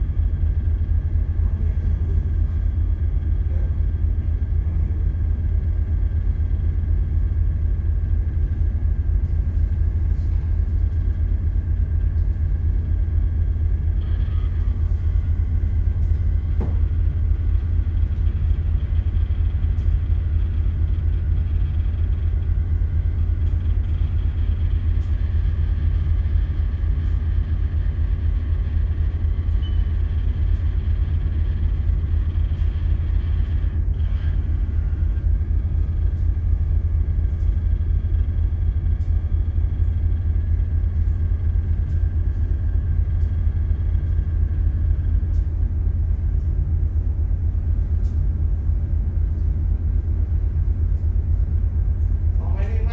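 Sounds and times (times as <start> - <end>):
faint equipment hum: 0.0 - 52.9
ship engine low rumble: 0.0 - 52.9.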